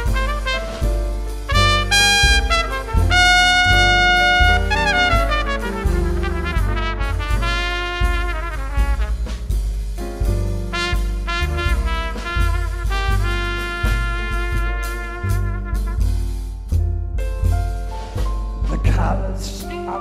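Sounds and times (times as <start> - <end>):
trumpet jazz ballad solo: 0.0 - 17.0
drums: 0.0 - 20.0
piano: 0.0 - 20.0
string bass: 0.0 - 20.0.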